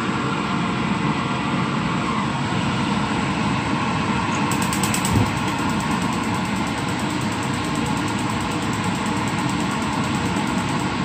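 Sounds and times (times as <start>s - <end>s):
steady mechanical whir: 0.0s - 11.0s.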